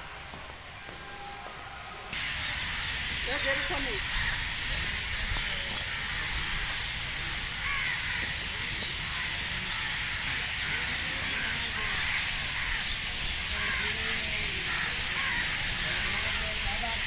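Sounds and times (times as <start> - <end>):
birds chattering and calling: 2.1 - 17.0.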